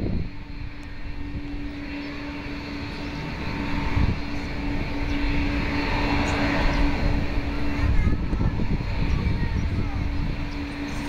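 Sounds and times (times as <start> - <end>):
high engine whine: 0.0 - 11.0
jet engines taxiing hum: 0.0 - 11.0.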